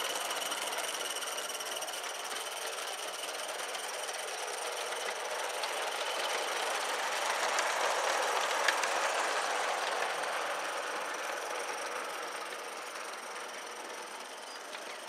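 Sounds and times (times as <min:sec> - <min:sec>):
steam exhaust hissing and chuffing: 0:00.0 - 0:15.0
wheels clicking on track: 0:00.0 - 0:15.0.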